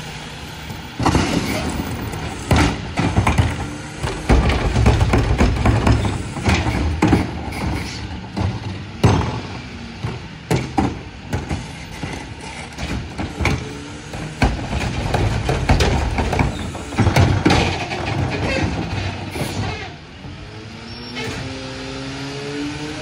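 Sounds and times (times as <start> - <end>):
diesel engine running: 0.0 - 21.1
trash carts clunking and banging: 0.0 - 21.5.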